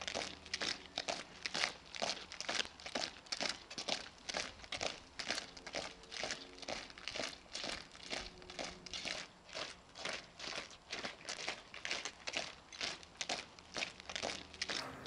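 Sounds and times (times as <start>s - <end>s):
crinkling rustling crackles: 0.0s - 15.0s.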